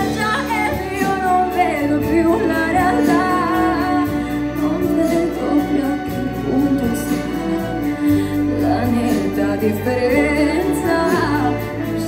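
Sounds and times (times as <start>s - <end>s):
strings and keyboard chords: 0.0s - 12.0s.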